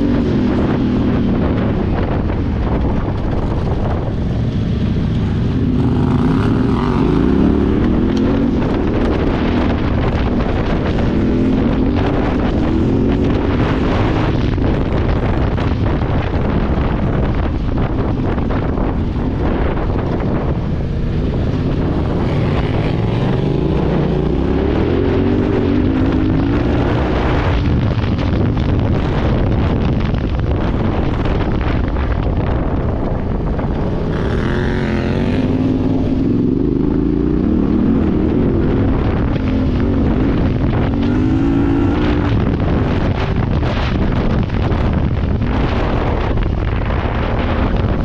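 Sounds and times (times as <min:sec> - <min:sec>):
motorcycle engine revving: 0:00.0 - 0:31.8, 0:33.2 - 0:48.0
wind buffeting microphone: 0:00.0 - 0:48.0.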